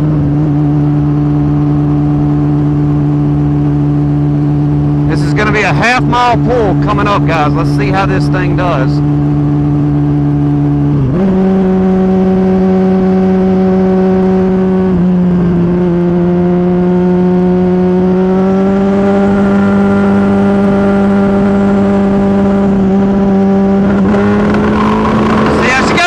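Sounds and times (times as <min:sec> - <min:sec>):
motorcycle engine at full throttle: 0:00.0 - 0:26.0.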